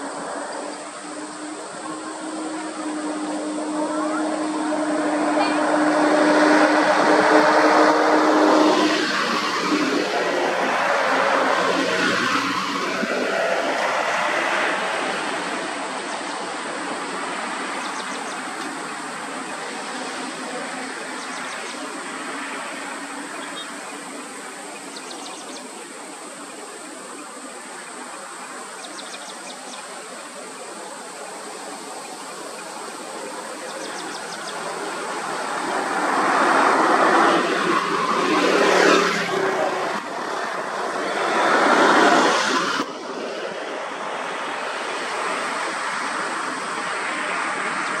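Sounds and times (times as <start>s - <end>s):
vehicles driving by: 0.0s - 48.0s.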